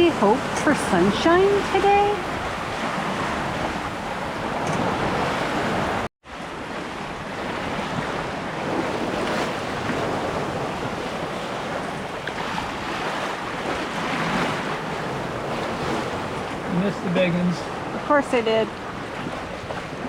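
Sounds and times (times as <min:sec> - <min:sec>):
wind on microphone: 0:00.0 - 0:16.8
lake waves: 0:00.0 - 0:20.0
water rushing along boat hull: 0:00.0 - 0:20.0.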